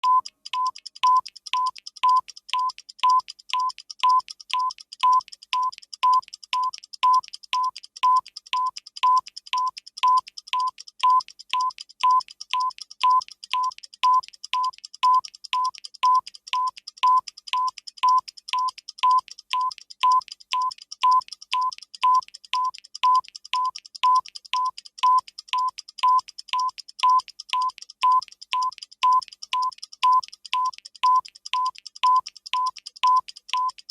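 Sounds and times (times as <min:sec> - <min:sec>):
ticking clock: 0:00.0 - 0:33.9.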